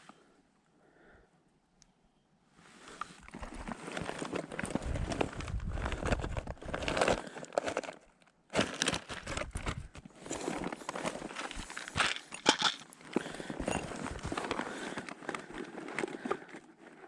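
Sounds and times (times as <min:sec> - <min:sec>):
crinkling and rustling: 0:02.8 - 0:17.0.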